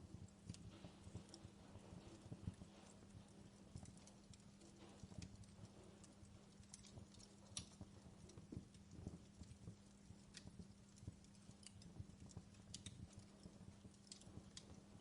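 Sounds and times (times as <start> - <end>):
log fire crackling: 0.0 - 15.0
low steady hum: 0.0 - 15.0.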